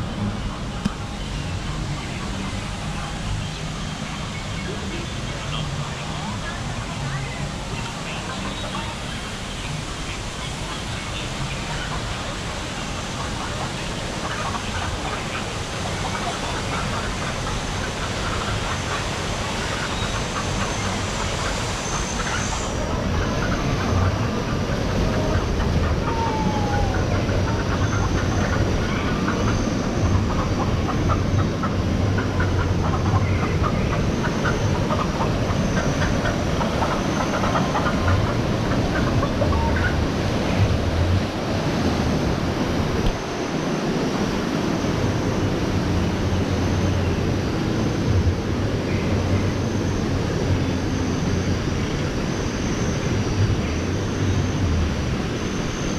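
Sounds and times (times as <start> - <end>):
rushing white water: 0.0 - 55.9.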